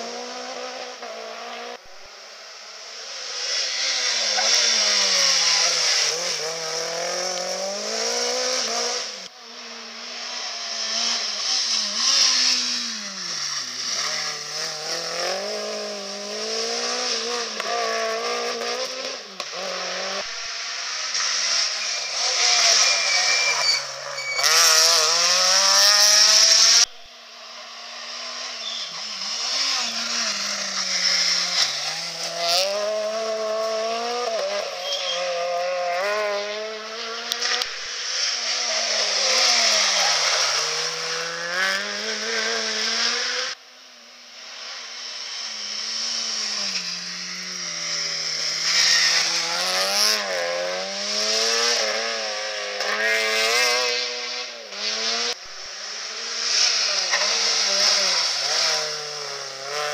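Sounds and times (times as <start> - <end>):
rally car engines accelerating: 0.0 - 59.9.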